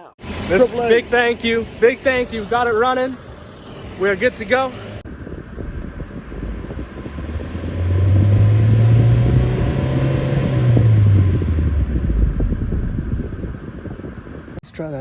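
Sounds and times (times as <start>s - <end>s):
car engine running: 0.0s - 14.6s.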